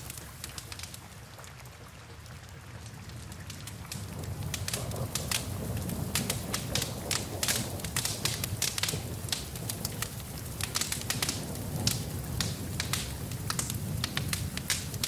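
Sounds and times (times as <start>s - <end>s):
rain: 0.0s - 15.0s
wood fire crackling and popping: 0.0s - 15.0s.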